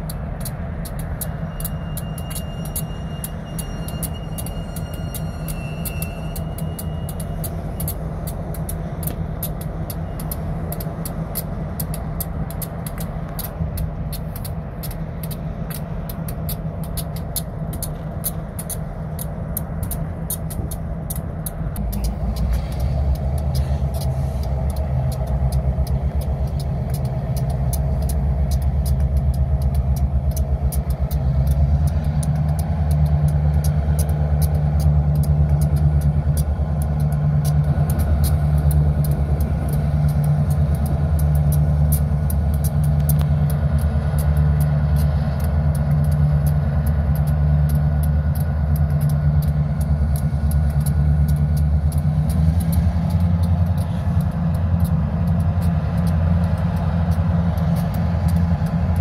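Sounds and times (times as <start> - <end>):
locomotive engines throbbing: 0.0 - 59.0.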